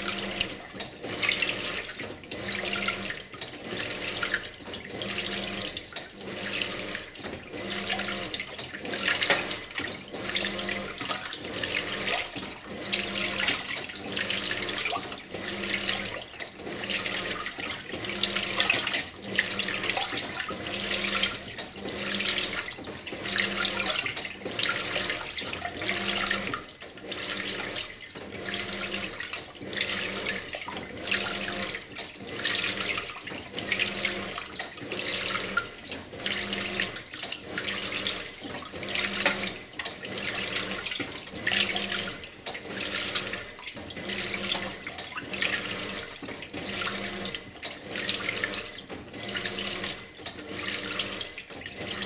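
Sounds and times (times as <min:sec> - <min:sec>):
washing machine drive hum: 0:00.0 - 0:52.0
water sloshing in washing machine: 0:00.0 - 0:52.0.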